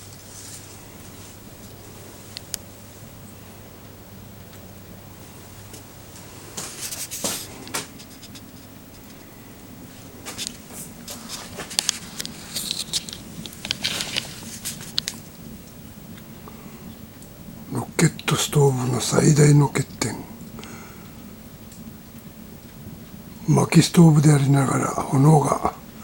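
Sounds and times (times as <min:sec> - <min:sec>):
low stove draft hum: 0:00.0 - 0:26.0
wood fire crackling: 0:00.0 - 0:26.0.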